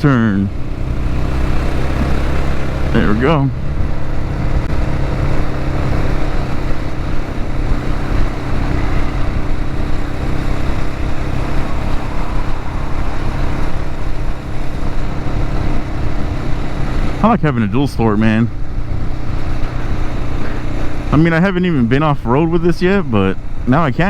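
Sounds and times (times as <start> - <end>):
motorcycle engine running: 0.0 - 24.0
wind rushing over microphone: 0.1 - 24.0.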